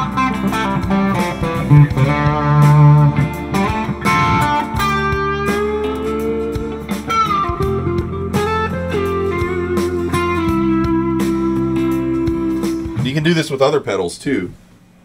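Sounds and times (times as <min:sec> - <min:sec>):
overdriven electric guitar blues lead: 0:00.0 - 0:13.1
bass guitar: 0:00.0 - 0:13.6
backing track drums: 0:00.0 - 0:14.6.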